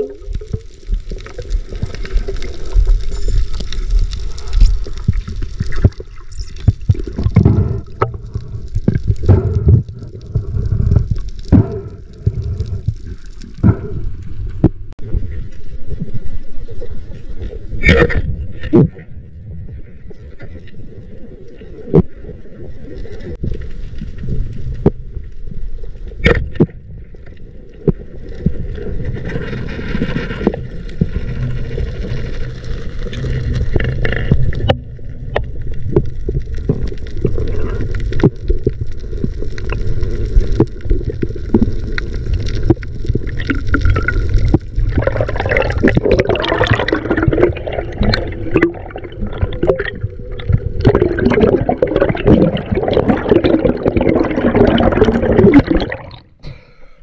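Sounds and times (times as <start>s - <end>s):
water gurgling and sloshing: 0.0s - 56.4s.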